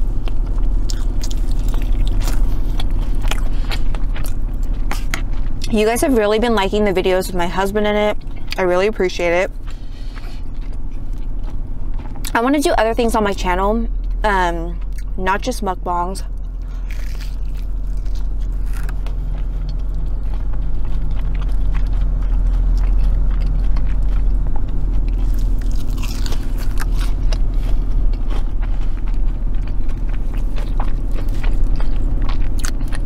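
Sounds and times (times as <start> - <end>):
crunchy chewing: 0.0 - 5.8, 8.1 - 12.4, 13.9 - 15.2, 16.3 - 33.0
low hum: 0.0 - 33.0.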